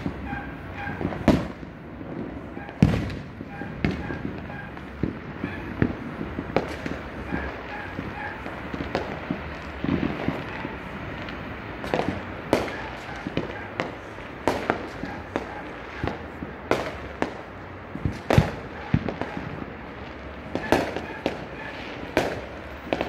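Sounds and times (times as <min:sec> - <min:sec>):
distant fireworks din: 0:00.0 - 0:23.0
fireworks bangs and pops: 0:00.0 - 0:23.0.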